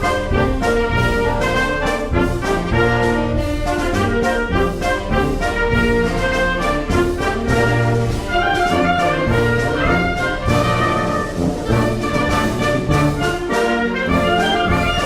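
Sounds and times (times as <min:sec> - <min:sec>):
military wind band playing: 0:00.0 - 0:15.0.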